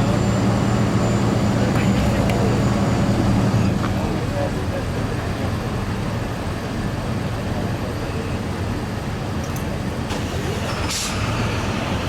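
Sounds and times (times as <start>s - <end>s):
rumble of vehicle engines: 0.0s - 12.0s.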